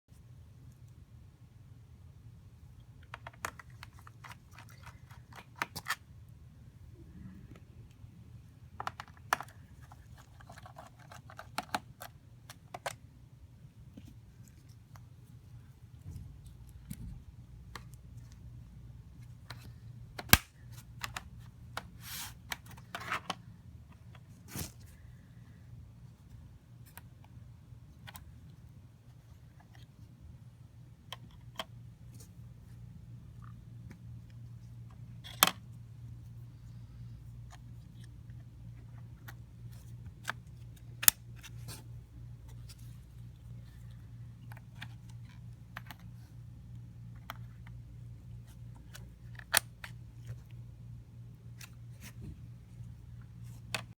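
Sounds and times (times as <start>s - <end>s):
low steady hum: 0.1s - 54.0s.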